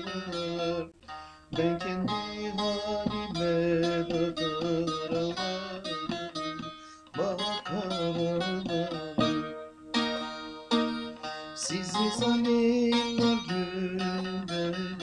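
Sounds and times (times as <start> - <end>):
long-necked lute playing: 0.0 - 15.0
person singing folk song: 0.0 - 15.0.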